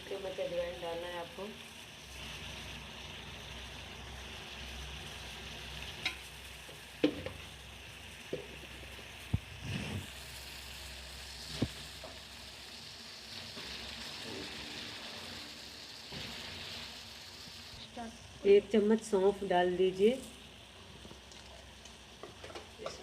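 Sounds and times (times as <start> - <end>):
pot simmering with hiss: 0.0 - 23.0.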